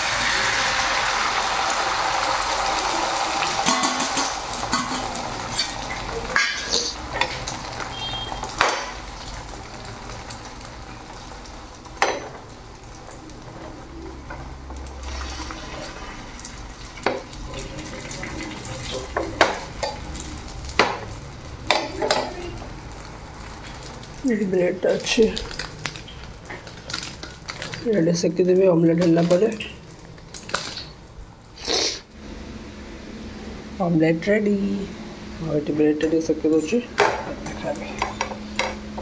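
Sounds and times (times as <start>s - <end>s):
egg batter sizzling in a pan: 0.0s - 32.1s.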